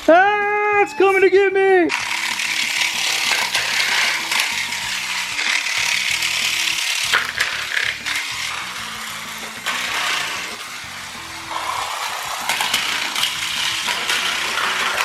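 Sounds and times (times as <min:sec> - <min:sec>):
background music: 0:00.0 - 0:15.0
toy car motor whirring: 0:01.9 - 0:15.0.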